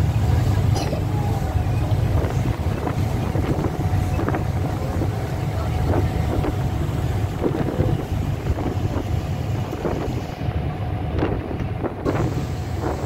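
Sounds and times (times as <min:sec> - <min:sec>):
boat engine running: 0:00.0 - 0:13.0
water washing against hull: 0:00.0 - 0:13.0
wind buffeting microphone: 0:00.0 - 0:13.0.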